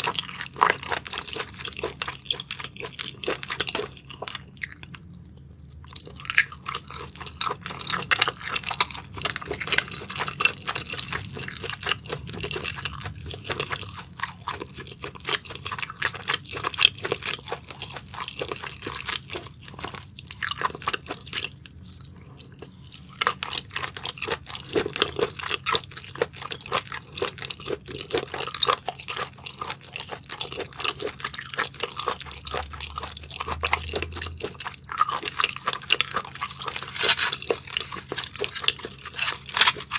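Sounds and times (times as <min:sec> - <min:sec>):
mouth chewing clicks and smacks: 0:00.0 - 0:39.9.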